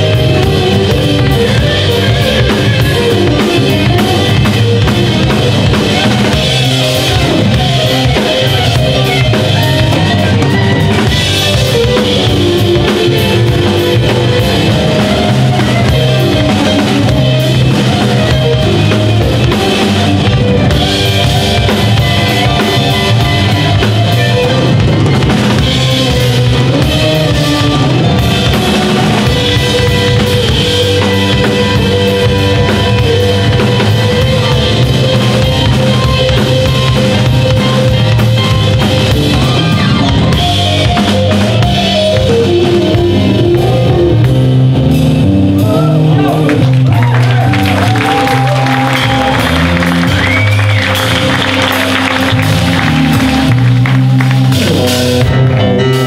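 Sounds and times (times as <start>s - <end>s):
bass guitar: 0.0s - 56.0s
drum kit: 0.0s - 56.0s
electric guitar: 0.0s - 56.0s
stage piano: 0.0s - 56.0s.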